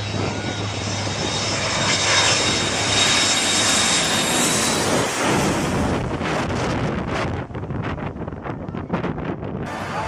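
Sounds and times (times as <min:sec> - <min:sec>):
jet engine with high whine: 0:00.0 - 0:10.0
wind buffeting microphone: 0:00.0 - 0:10.0.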